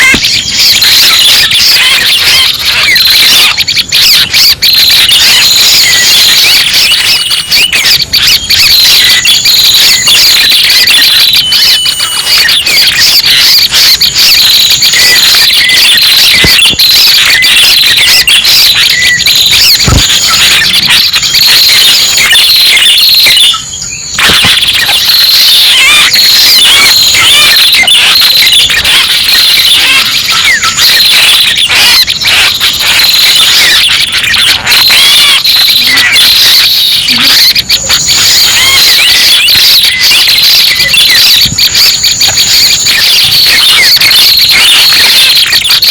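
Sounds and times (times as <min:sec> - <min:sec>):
high-pitched bird chirps and trills: 0:00.0 - 0:37.1.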